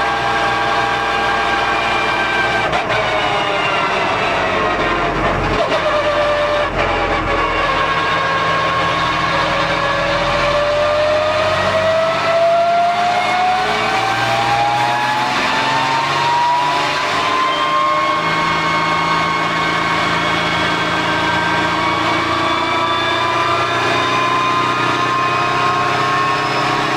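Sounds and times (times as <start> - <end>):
race car engine accelerating: 0.0 - 26.9.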